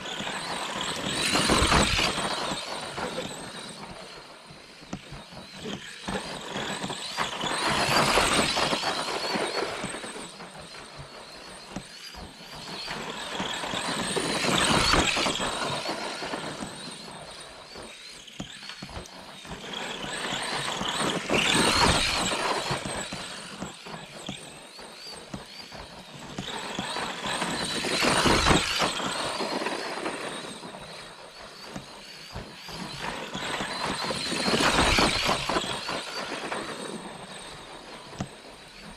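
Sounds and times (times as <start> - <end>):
electric toy truck motor whining: 0.0 - 38.9.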